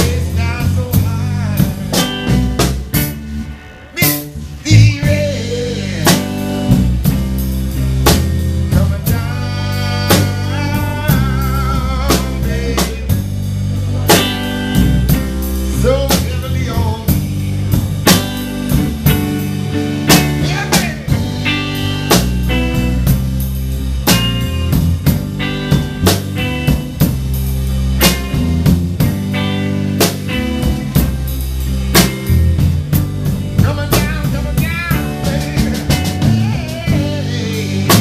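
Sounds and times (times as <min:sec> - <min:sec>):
bass guitar: 0:00.0 - 0:38.0
drum kit steady beat: 0:00.0 - 0:38.0
electric guitar bending notes: 0:00.0 - 0:38.0.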